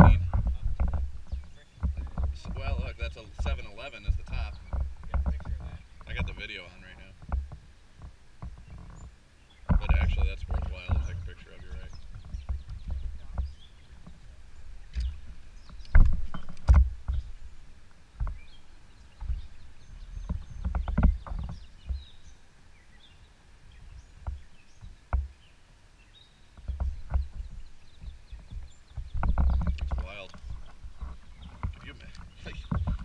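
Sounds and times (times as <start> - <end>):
knocks against a canoe: 0.0 - 17.5, 18.2 - 22.2, 24.2 - 25.5, 26.6 - 33.0
low rumbling: 0.0 - 25.0, 26.1 - 33.0.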